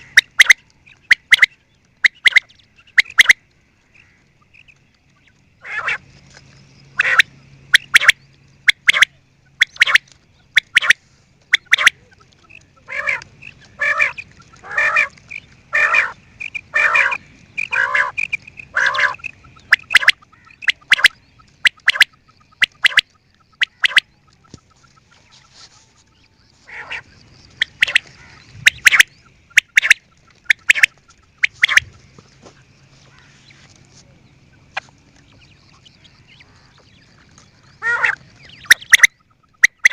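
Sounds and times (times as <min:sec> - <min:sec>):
quail calling: 0:00.0 - 0:06.0, 0:07.0 - 0:33.7, 0:34.5 - 0:39.9
faint low hum: 0:00.0 - 0:39.9.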